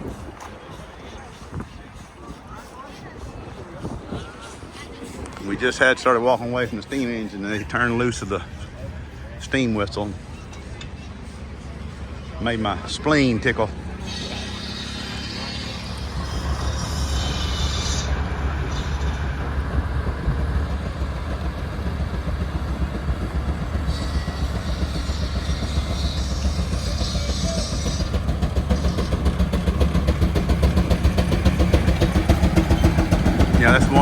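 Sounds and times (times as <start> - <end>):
large engine chugging: 0.0 - 34.0.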